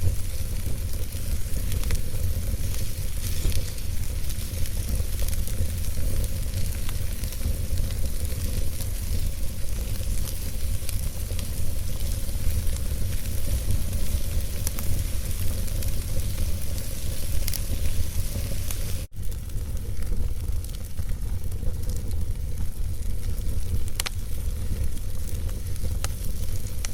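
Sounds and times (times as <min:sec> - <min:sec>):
steady fire hiss: 0:00.0 - 0:26.9
wood fire crackling and popping: 0:00.0 - 0:26.9.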